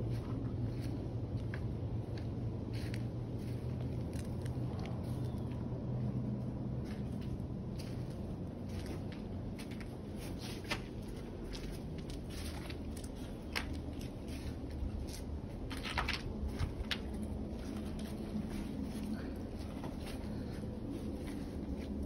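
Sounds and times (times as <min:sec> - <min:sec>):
footsteps on dry leaves: 0:00.0 - 0:05.6, 0:06.8 - 0:22.0
low steady rumble: 0:00.0 - 0:22.0.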